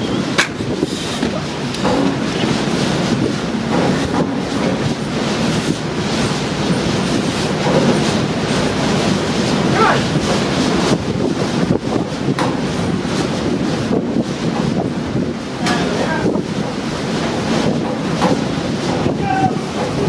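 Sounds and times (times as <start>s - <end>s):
gale wind buffeting microphone: 0.0s - 20.0s.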